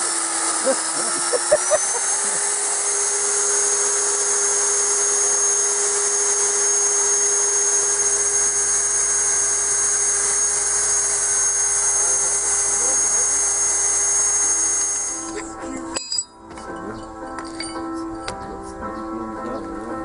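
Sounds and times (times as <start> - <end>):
core drill motor whining: 0.0 - 16.4.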